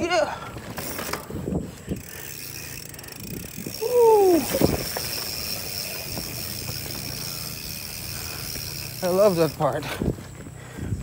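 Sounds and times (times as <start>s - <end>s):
bike tyre rumble: 0.0s - 11.0s
freewheel buzz: 0.1s - 11.0s.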